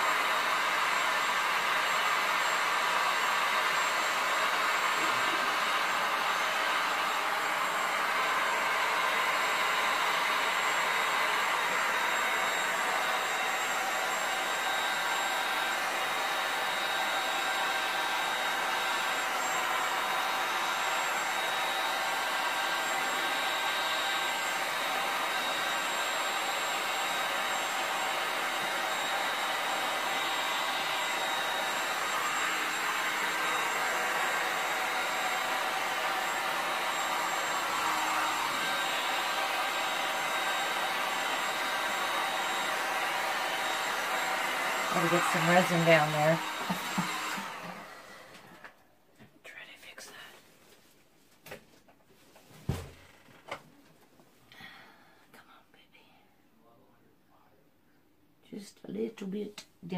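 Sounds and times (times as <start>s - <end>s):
heat gun blowing air: 0.0s - 48.6s.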